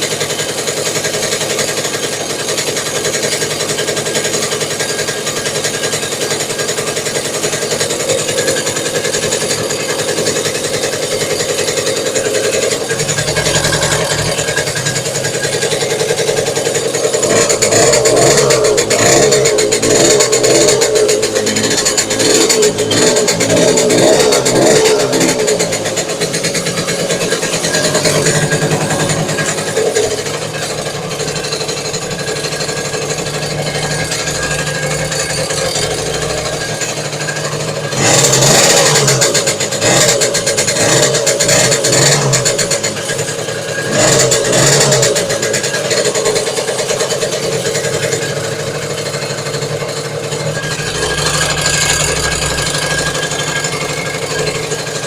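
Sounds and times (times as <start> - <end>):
moped engine metallic knocking: 0.0 - 55.0.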